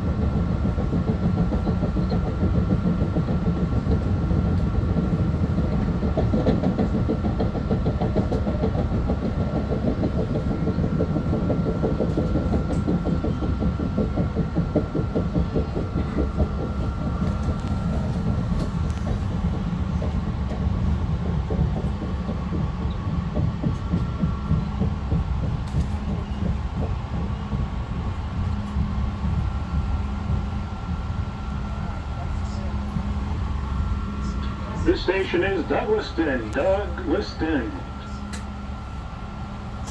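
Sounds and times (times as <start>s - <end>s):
rail clatter: 0.0s - 39.9s
train wheels rumbling on track: 0.0s - 39.9s.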